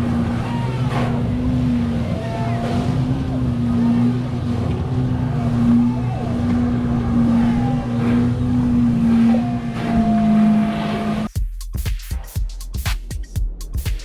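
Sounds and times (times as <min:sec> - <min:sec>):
engine humming steadily: 0:00.0 - 0:11.3.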